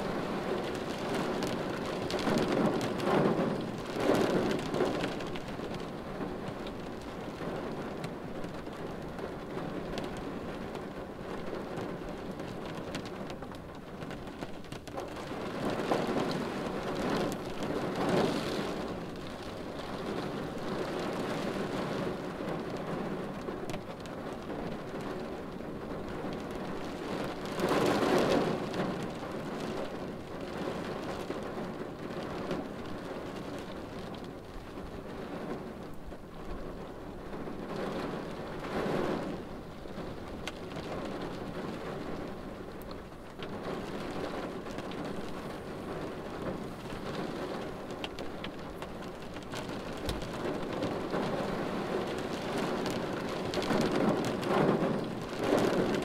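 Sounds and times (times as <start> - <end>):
rain on a car windshield: 0.0 - 56.0.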